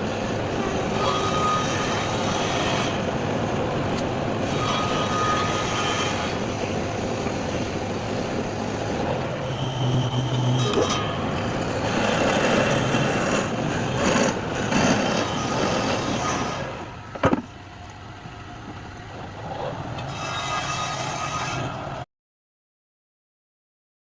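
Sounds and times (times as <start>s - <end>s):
wood lathe cutting wood: 0.0s - 17.2s, 20.0s - 22.0s.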